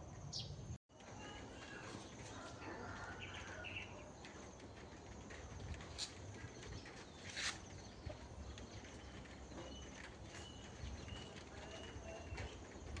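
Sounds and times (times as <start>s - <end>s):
birds chirping: 0.1s - 13.0s
noisy rustle: 1.3s - 13.0s.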